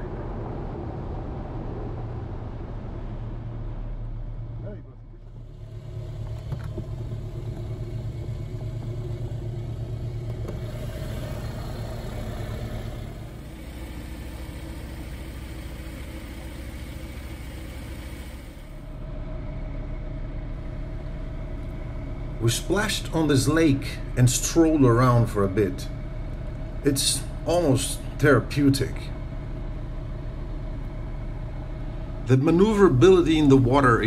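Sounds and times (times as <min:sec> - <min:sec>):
aircraft engine and propeller: 0:00.0 - 0:34.0.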